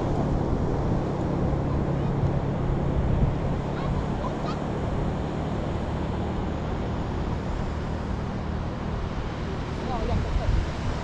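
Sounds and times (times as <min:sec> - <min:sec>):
ocean surf on beach: 0:00.0 - 0:11.0
wind buffeting microphone: 0:00.0 - 0:11.0.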